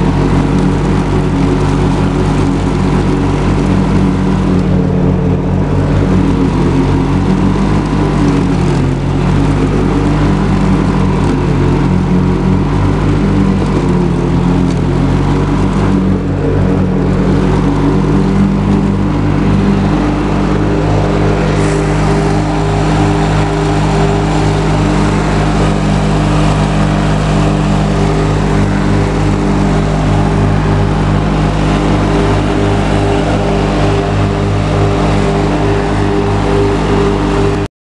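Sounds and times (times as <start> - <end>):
lawn tractor engine running: 0.0 - 37.7.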